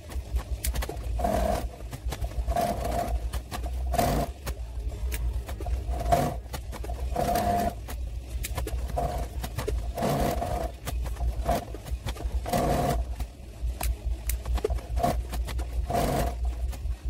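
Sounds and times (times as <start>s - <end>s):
sewing machine stitching: 0.0s - 4.5s, 5.5s - 8.0s, 8.6s - 13.2s, 14.4s - 16.9s
low steady hum: 0.0s - 17.0s.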